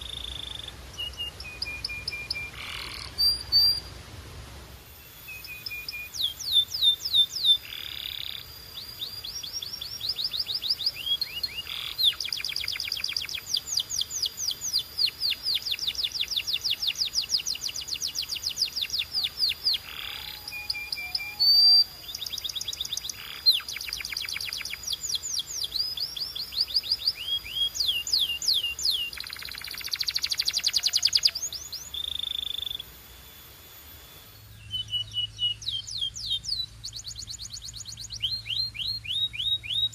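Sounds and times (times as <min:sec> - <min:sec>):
canary singing trills: 0:00.0 - 0:03.9, 0:04.9 - 0:39.9.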